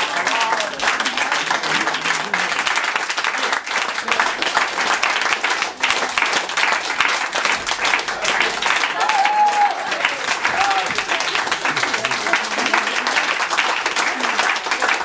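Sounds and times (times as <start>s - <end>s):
audience applause: 0.0s - 15.0s.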